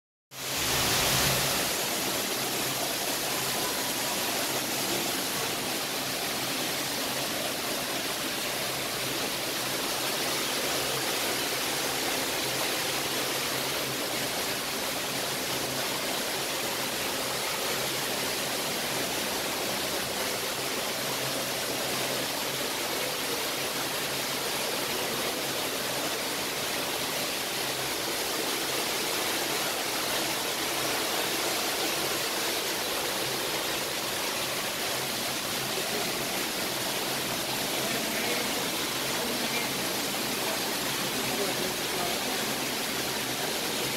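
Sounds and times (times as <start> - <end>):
flowing water rushing: 0.3 - 43.9.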